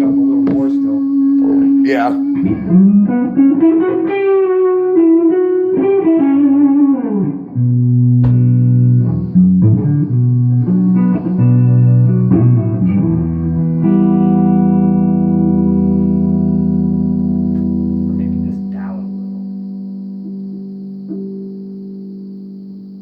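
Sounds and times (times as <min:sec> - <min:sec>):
electric guitar chords: 0:00.0 - 0:23.0
electric guitar lead lines: 0:00.0 - 0:23.0.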